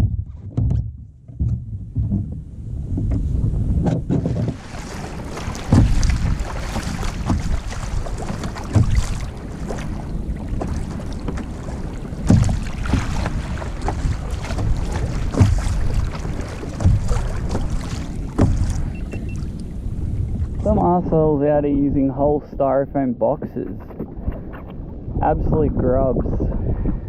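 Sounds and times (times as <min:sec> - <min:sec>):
water moving around kayak: 0:00.0 - 0:27.0
water splashing against hull: 0:00.0 - 0:27.0
wind buffeting microphone: 0:00.0 - 0:27.0.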